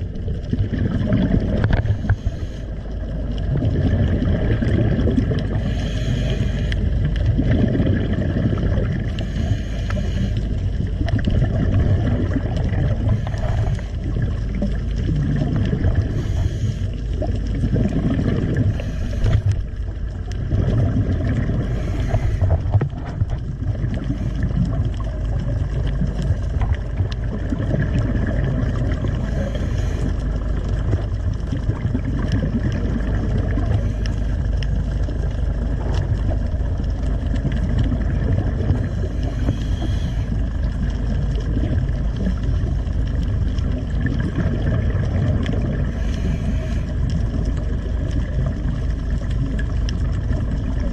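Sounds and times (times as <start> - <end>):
regulator bubbles: 0.0 - 50.9
underwater rumble: 0.0 - 50.9.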